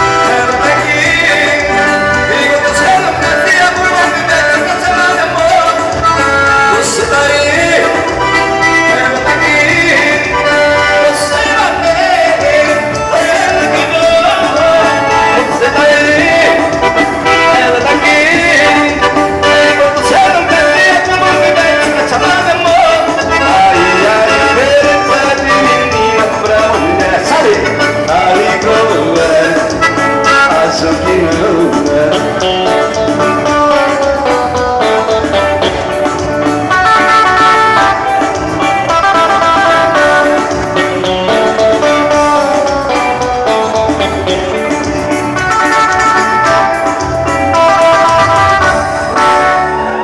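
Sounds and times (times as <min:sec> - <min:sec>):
live band playing country music: 0:00.0 - 0:50.0.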